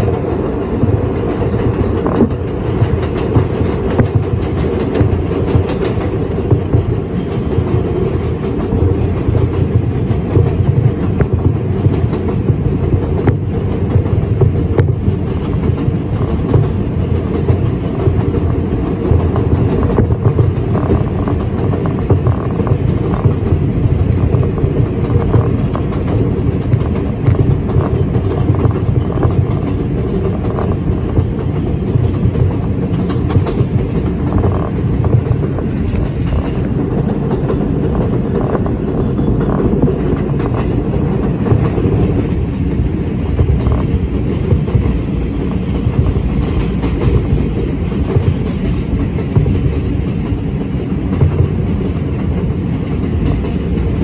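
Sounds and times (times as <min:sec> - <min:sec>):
subway car rumbling: 0:00.0 - 0:54.0
wheels clicking over rails: 0:00.0 - 0:54.0.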